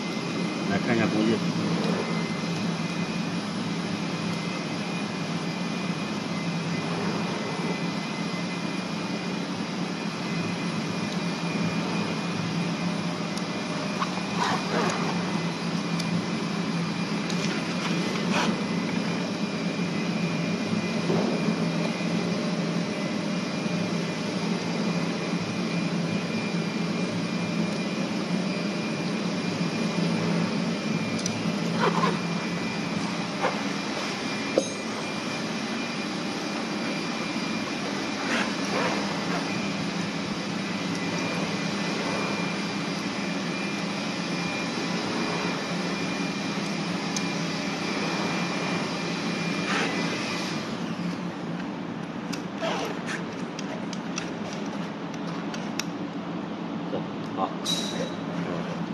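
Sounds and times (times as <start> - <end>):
machine hum: 0.0 - 58.9.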